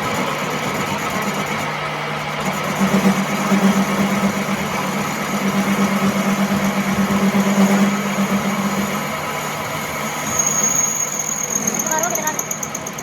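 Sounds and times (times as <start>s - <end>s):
workshop machine humming: 0.0s - 13.0s.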